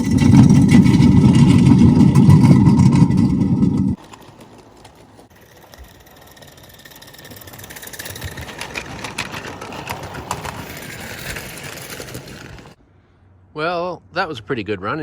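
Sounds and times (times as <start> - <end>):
steam locomotive chuffing: 0.0 - 12.8.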